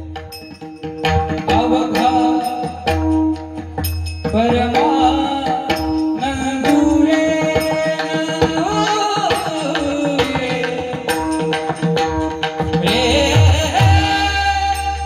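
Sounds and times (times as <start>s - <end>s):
tabla and percussion: 0.0s - 15.0s.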